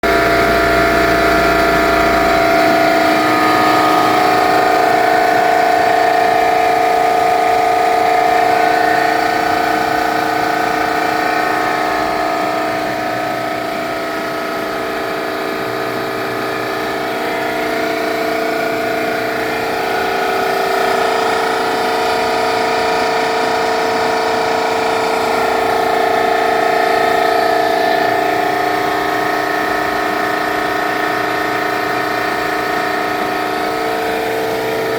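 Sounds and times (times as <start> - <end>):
air compressor whining: 0.0 - 34.9.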